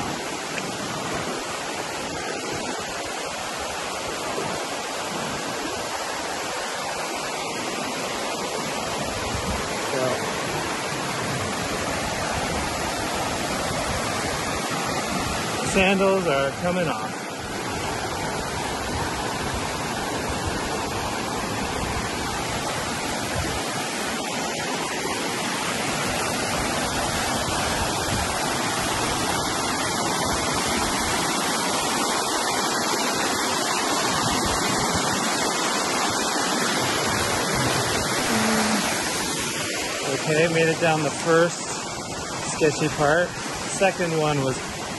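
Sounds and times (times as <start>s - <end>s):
small waterfall over rock: 0.0s - 44.9s.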